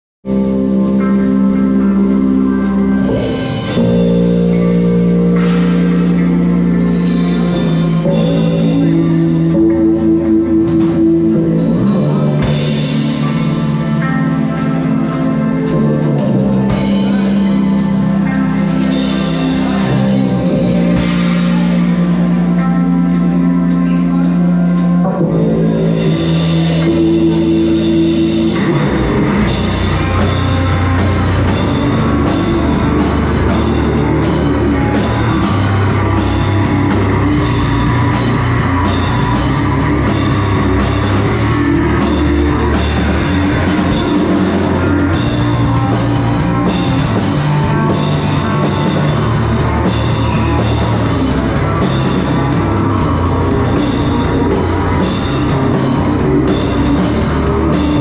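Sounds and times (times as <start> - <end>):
drums and cymbals: 0.2 - 58.0
electric guitar chords: 0.2 - 58.0.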